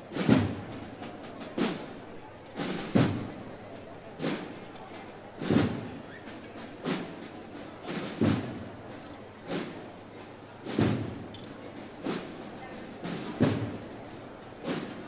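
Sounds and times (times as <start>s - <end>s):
drum beating slowly: 0.0s - 15.0s.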